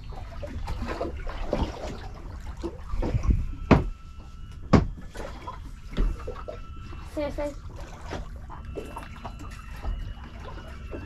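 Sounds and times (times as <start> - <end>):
water sloshing and dribbling: 0.0 - 11.0.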